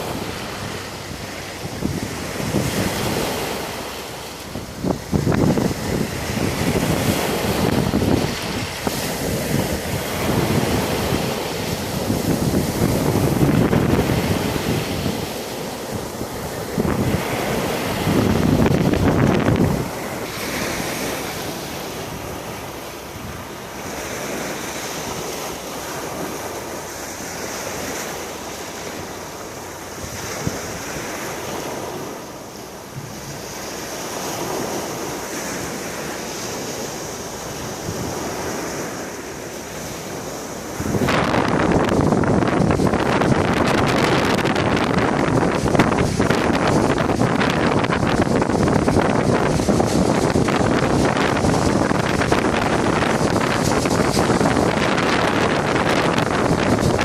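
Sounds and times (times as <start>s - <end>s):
sea waves washing on shore: 0.0s - 57.0s
wind buffeting microphone: 0.0s - 57.0s.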